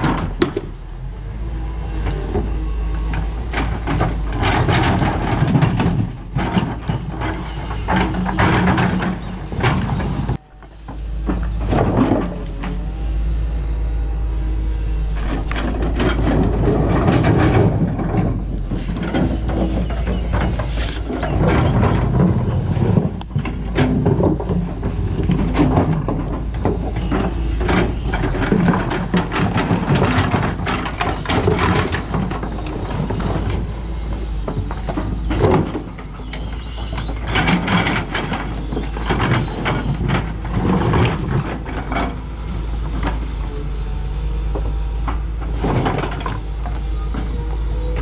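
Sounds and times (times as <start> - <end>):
excavator bucket clanking and scraping: 0.0 - 13.0, 15.1 - 48.0
diesel engine running: 0.0 - 48.0.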